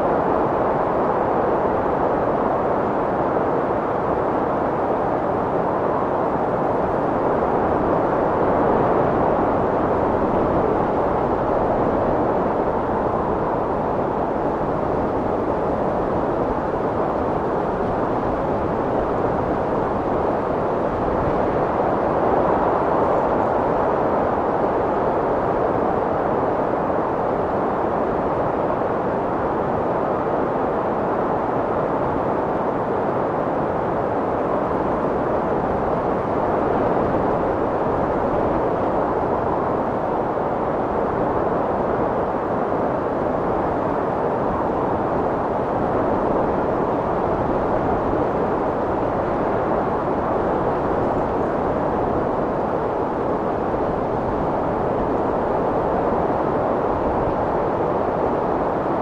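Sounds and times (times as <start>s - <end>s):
strong wind blowing: 0.0s - 59.0s.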